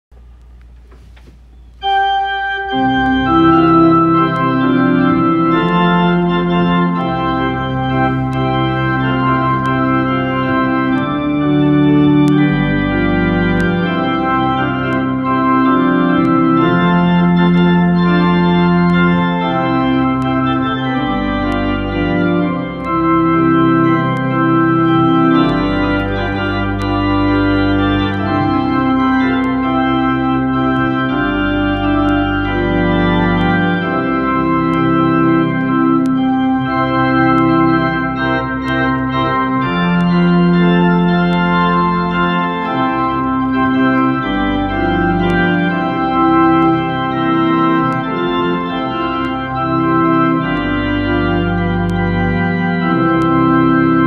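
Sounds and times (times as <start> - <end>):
electronic organ playing a hymn: 0.3 - 54.0.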